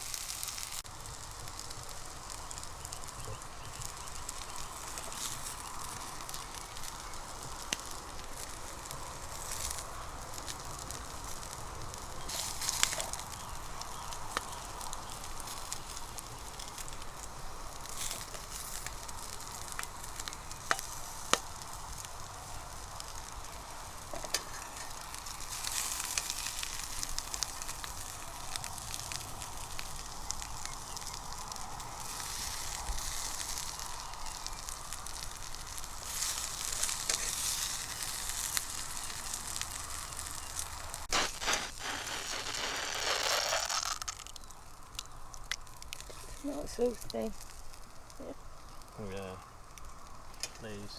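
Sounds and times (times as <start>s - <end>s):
onions sizzling in a pan: 0.0s - 50.9s.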